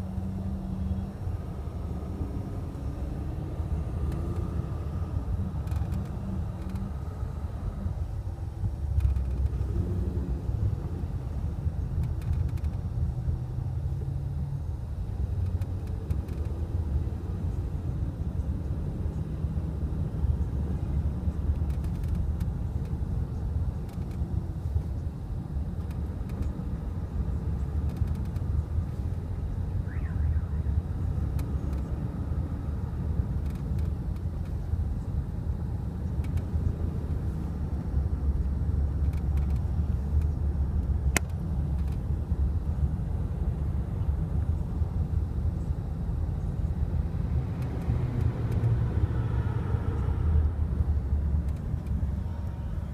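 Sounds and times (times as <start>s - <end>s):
road and drivetrain rumble: 0.0s - 52.9s.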